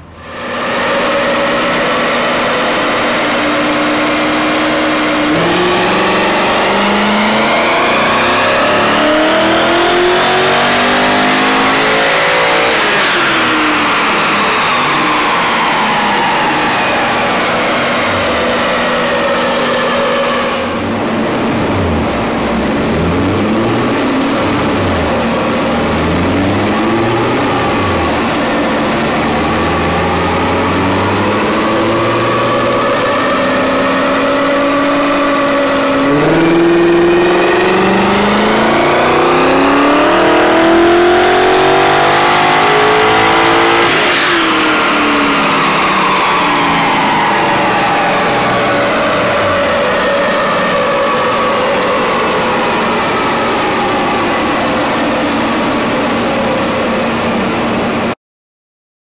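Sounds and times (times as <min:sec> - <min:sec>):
car engine revving on dyno: 0:00.0 - 0:58.2.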